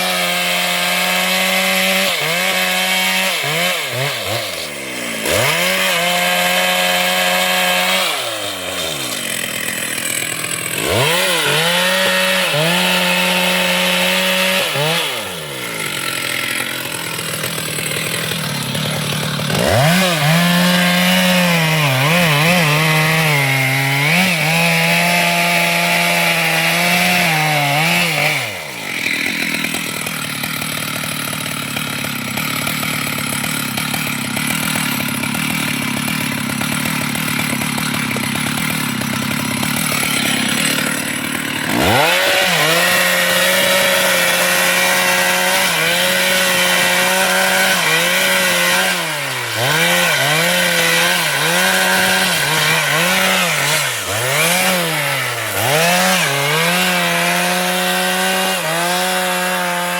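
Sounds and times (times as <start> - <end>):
chainsaw revving and cutting wood: 0.0 - 59.9.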